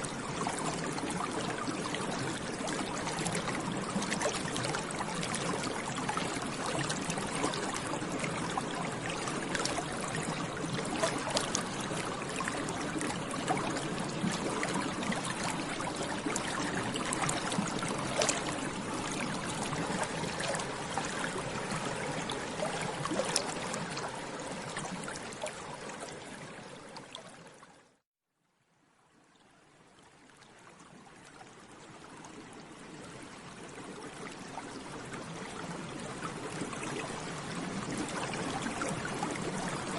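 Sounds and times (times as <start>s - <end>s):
water bubbling and gurgling: 0.0s - 28.0s, 29.7s - 39.9s.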